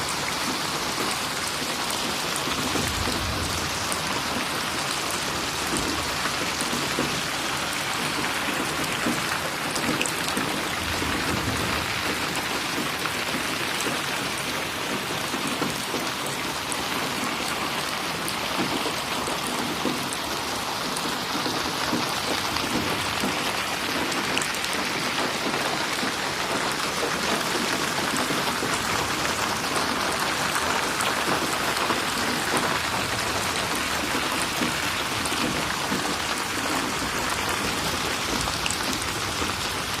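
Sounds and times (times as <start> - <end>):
rain falling: 0.0 - 40.0
raindrops splashing and ticking: 0.0 - 40.0.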